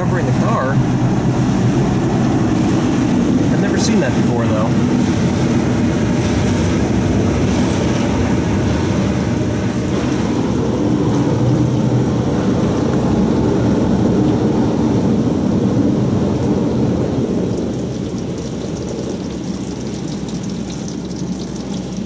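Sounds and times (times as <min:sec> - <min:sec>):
car wash spray on roof and glass: 0:00.0 - 0:22.0.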